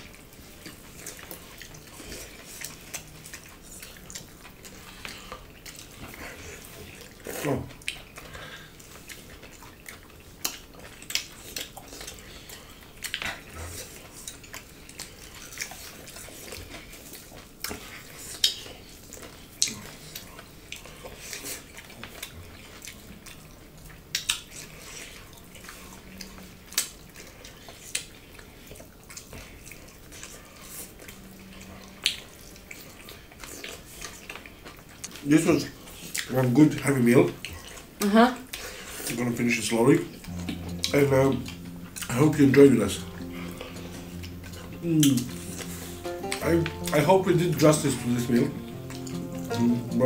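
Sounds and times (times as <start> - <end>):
chewing and lip smacks: 0.0 - 50.0.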